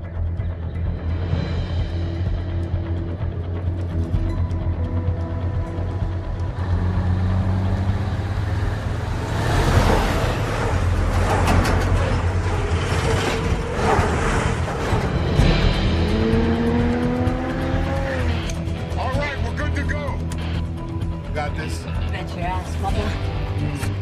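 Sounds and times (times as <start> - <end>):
film score music: 0.0 - 24.0
vehicle engines and road noise: 0.0 - 24.0
vehicle accelerating: 0.8 - 21.3.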